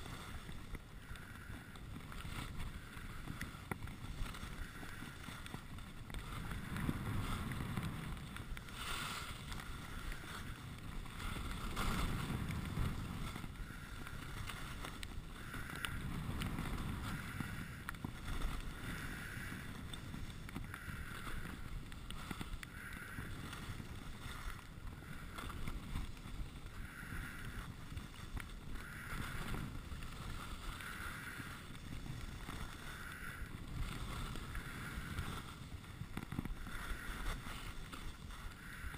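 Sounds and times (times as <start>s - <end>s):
skis scraping on snow: 0.0s - 38.9s
wind rumbling on microphone: 0.0s - 38.9s.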